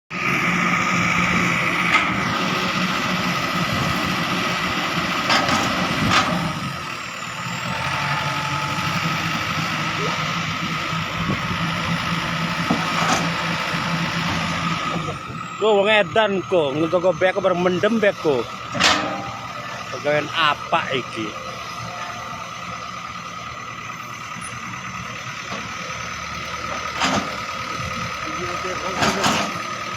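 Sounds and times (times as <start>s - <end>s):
constant whine: 0.1s - 29.9s
diesel engine droning: 0.1s - 29.9s.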